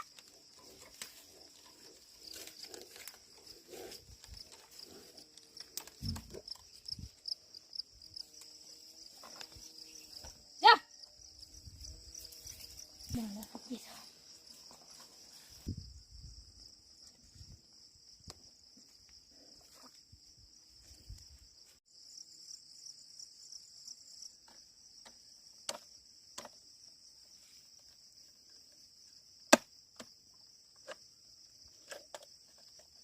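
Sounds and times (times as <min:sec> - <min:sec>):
insect chorus drone: 0:00.0 - 0:33.0.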